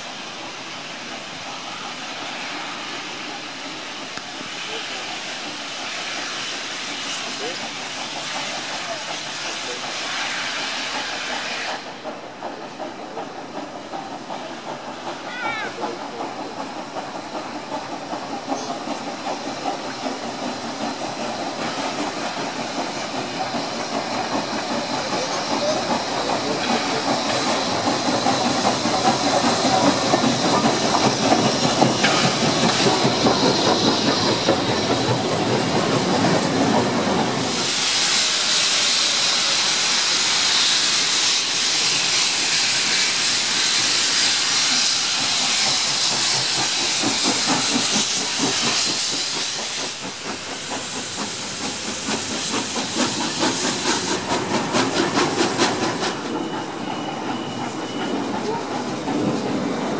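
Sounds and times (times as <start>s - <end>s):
steam hissing: 0.0s - 59.9s
steam locomotive running past: 0.0s - 59.9s
train wheels clicking over rail joints: 0.4s - 59.9s.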